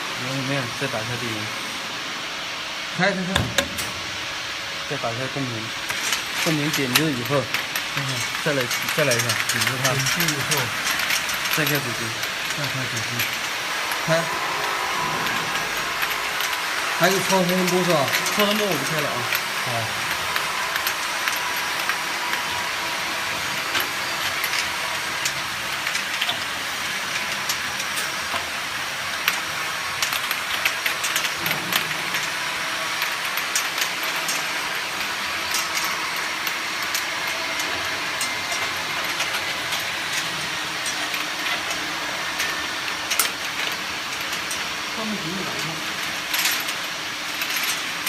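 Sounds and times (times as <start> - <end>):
machine hissing: 0.0 - 48.0.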